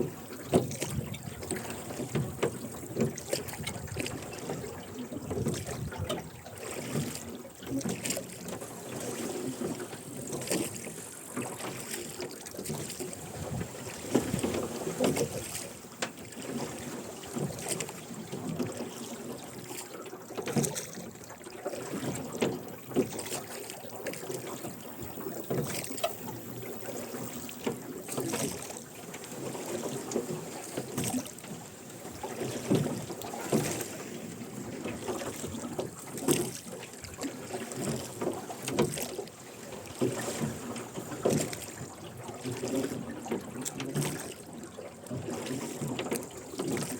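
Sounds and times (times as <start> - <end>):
oars splashing and knocking: 0.0 - 46.9.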